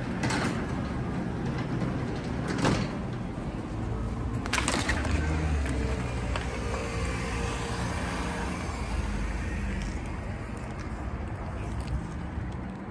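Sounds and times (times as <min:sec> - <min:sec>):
road traffic rumble: 0:00.0 - 0:12.9.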